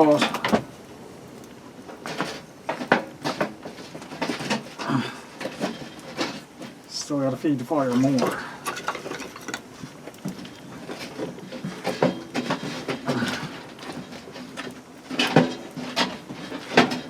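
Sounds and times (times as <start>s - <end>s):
firewood knocking and clattering: 0.0s - 17.0s.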